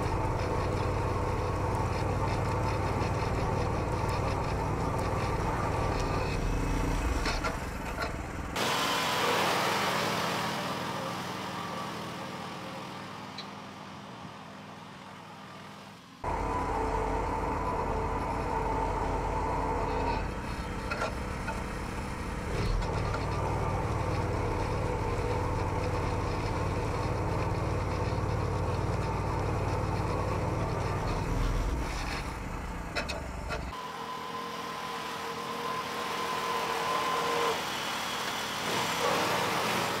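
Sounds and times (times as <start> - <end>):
tractor engine running under load: 0.0 - 15.5, 16.1 - 34.2.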